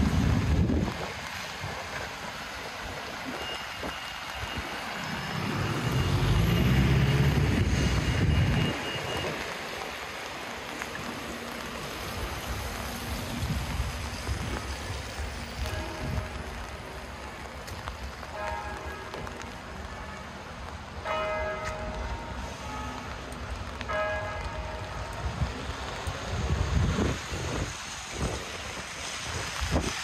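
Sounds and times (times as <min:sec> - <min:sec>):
steady rain hiss: 0:00.0 - 0:30.0
vehicle passing on wet road: 0:00.0 - 0:30.0.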